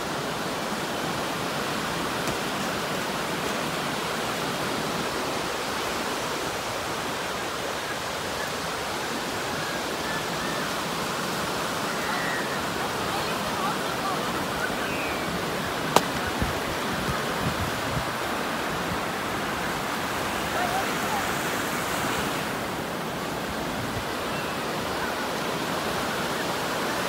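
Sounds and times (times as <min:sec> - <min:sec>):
ocean surf breaking on beach: 0:00.0 - 0:27.0.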